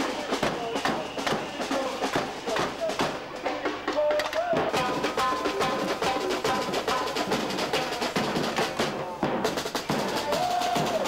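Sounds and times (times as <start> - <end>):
surdo drums beating samba rhythm: 0.0 - 11.0.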